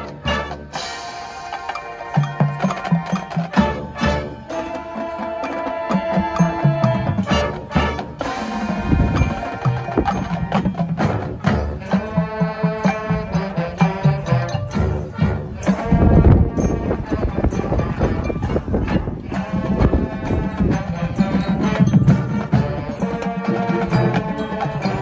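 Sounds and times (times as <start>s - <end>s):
mallet percussion: 0.0s - 25.0s
marching band wind chords: 0.0s - 25.0s
sharp percussion strikes: 0.0s - 25.0s.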